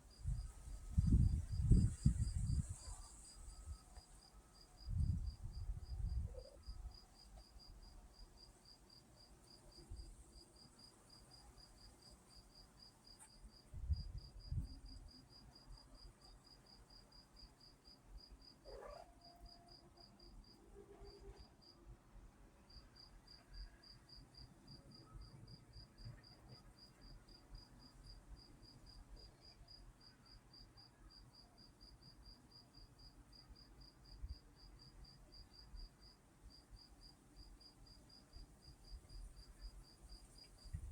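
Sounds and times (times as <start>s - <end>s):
cricket chirping: 0.1s - 21.7s, 22.7s - 40.9s.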